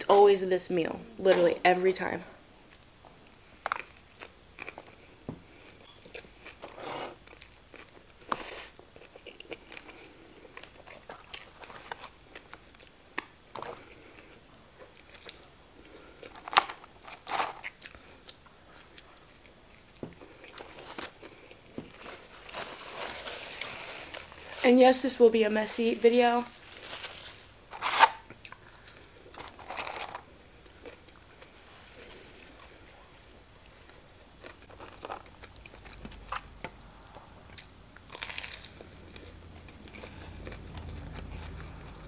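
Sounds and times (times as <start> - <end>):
person chewing food: 2.7 - 22.8, 28.2 - 42.0.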